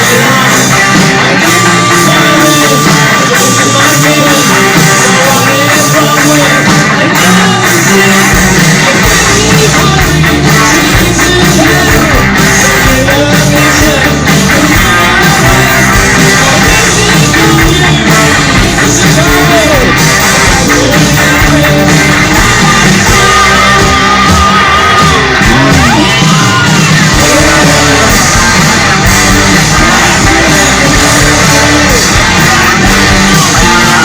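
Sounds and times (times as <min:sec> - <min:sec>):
person singing: 0:00.0 - 0:34.0
rock band playing: 0:00.0 - 0:34.0.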